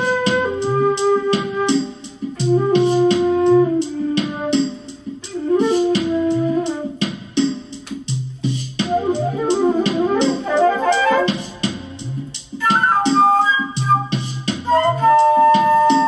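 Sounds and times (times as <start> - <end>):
bass line: 0.0 - 4.5, 5.2 - 7.2, 8.0 - 15.9
flute melody: 0.0 - 7.3, 8.7 - 16.0
drum beat: 0.0 - 16.0.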